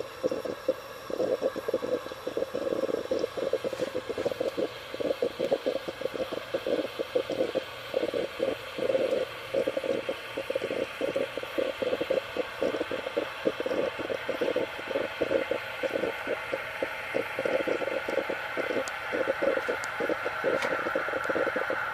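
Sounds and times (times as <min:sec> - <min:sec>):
espresso maker gurgling: 0:00.0 - 0:21.9.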